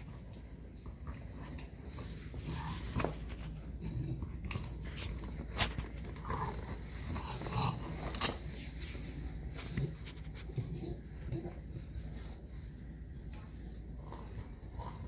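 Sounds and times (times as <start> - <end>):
puppy mouthing fabric bag: 0.0 - 14.8.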